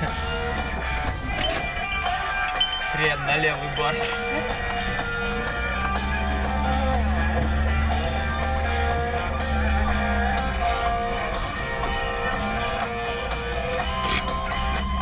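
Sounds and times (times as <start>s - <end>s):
guitar-led music with bass and beat: 0.0s - 15.0s.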